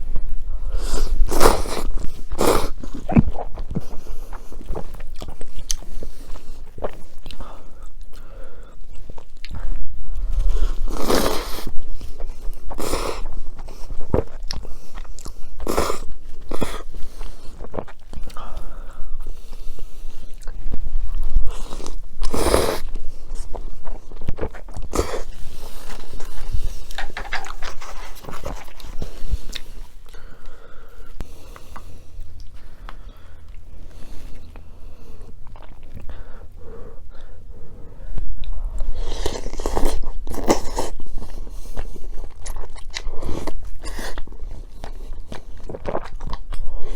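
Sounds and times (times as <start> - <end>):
biting and chewing food: 0.0 - 36.3, 38.4 - 46.9.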